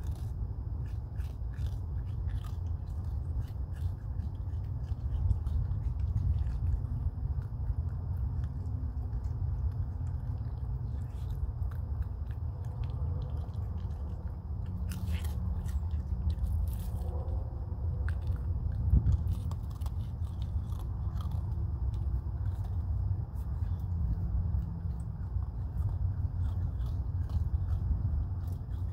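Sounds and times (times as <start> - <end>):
animal crunching dry kibble: 0.0 - 28.9
steady low rumble: 0.0 - 28.9.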